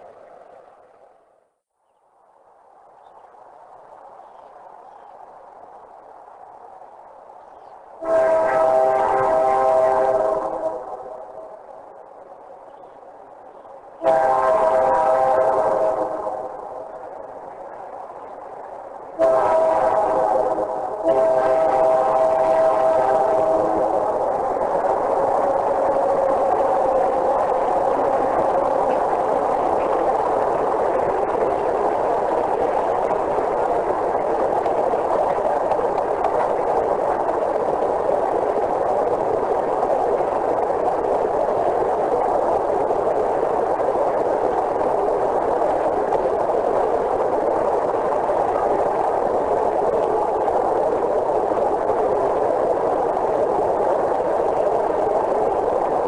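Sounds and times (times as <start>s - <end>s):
steady even noise: 5.7s - 56.0s.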